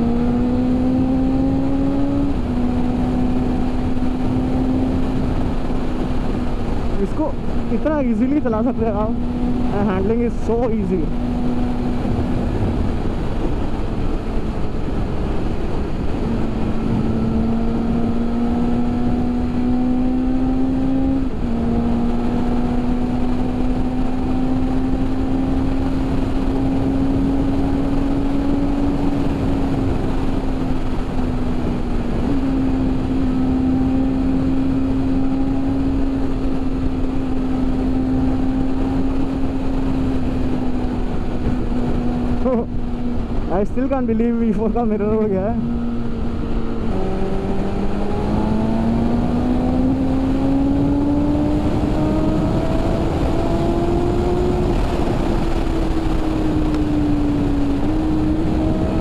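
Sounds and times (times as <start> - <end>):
motorcycle engine cruising: 0.0 - 59.0
wind rushing: 0.0 - 59.0.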